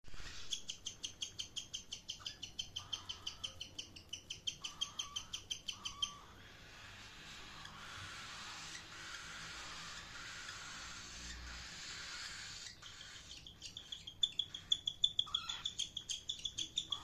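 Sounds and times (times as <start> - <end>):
cockatiel chirping: 0.2 - 17.0.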